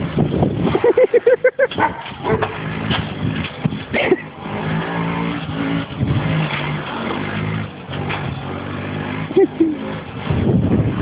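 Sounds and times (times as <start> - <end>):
quad bike engine revving: 0.0 - 11.0.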